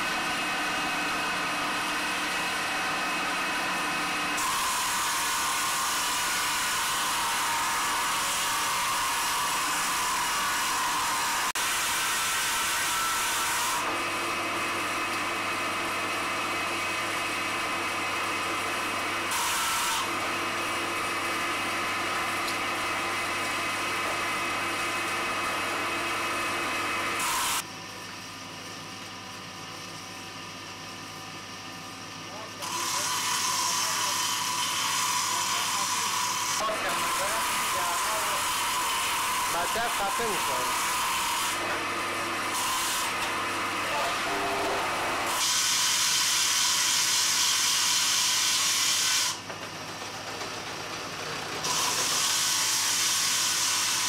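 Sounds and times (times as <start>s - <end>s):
electric motor hum and whine: 0.0s - 54.0s.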